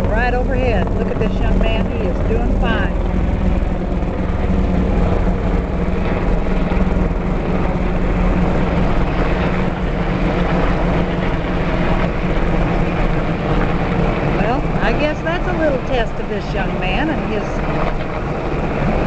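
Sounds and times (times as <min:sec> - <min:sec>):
helicopters droning overhead: 0:00.0 - 0:19.0.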